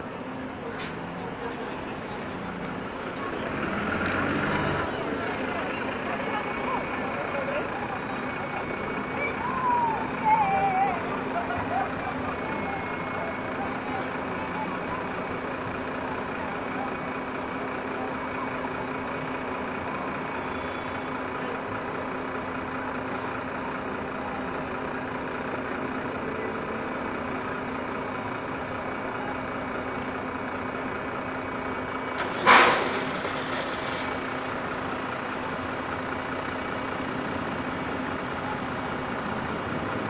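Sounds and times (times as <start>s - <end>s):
bus engine idling: 0.0s - 40.0s.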